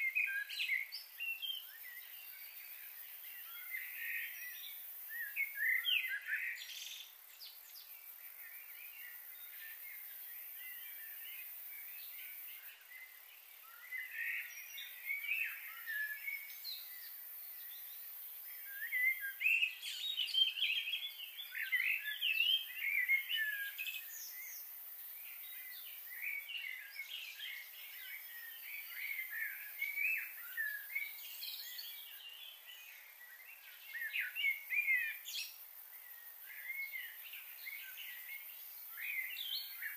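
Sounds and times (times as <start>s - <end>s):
faint outdoor hiss: 0.0s - 39.9s
small birds chirping: 0.0s - 39.9s.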